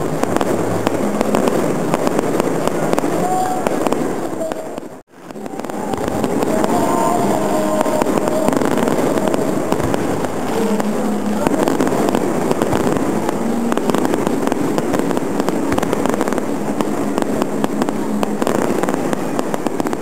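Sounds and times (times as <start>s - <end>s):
fireworks popping and crackling: 0.0s - 20.0s.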